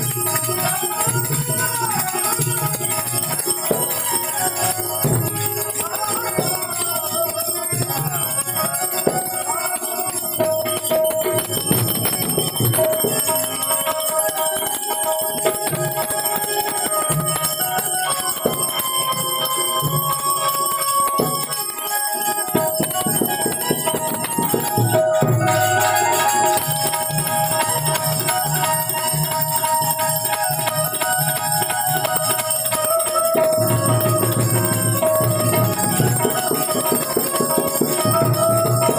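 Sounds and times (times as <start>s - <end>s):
harmonium melody: 0.0s - 38.9s
small metal percussion ringing: 0.0s - 38.9s.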